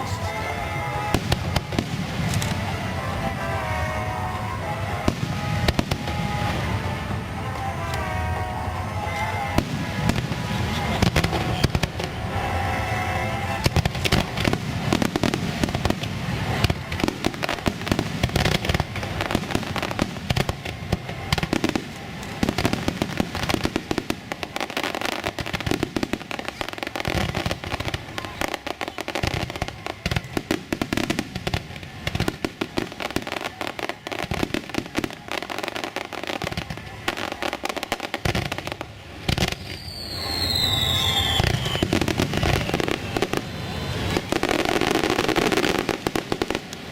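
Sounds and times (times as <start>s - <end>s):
falling firework whistle: 0.0s - 46.9s
fireworks bursts and crackles: 0.0s - 46.9s.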